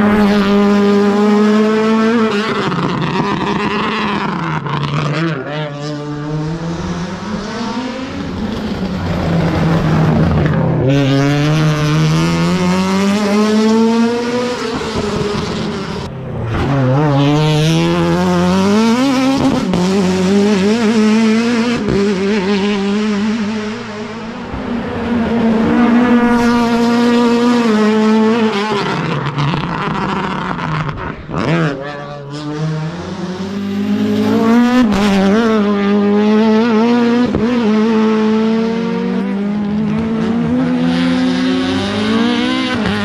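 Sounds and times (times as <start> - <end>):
car engine revving hard: 0.0 - 43.0.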